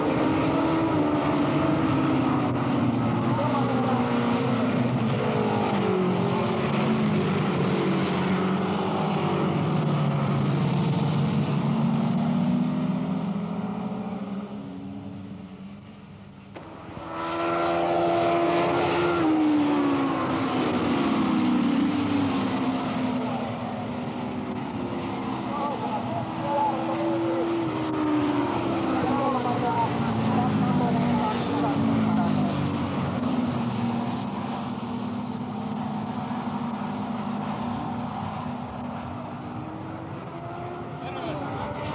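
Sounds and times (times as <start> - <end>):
racing motorcycles passing by: 0.0 - 41.9.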